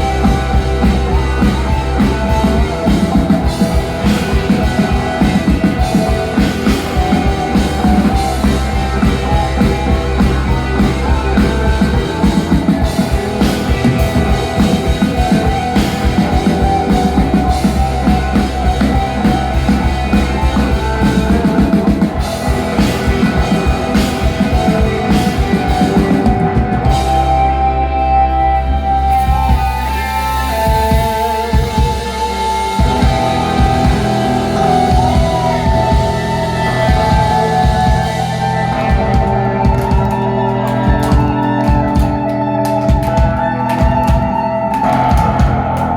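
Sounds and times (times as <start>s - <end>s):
drum kit beat: 0.0s - 28.5s, 29.1s - 45.9s
guitar: 0.0s - 45.9s
rock music: 0.0s - 45.9s.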